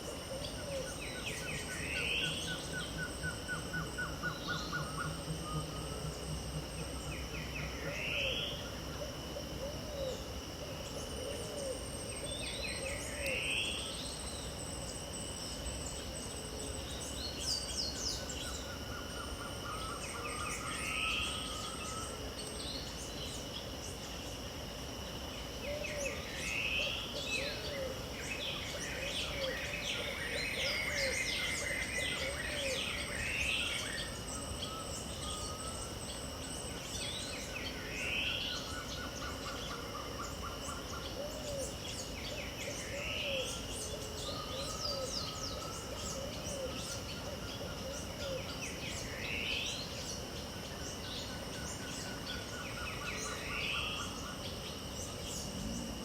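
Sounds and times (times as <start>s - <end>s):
birds singing: 0.0s - 56.0s
high-pitched insect drone: 0.0s - 56.0s.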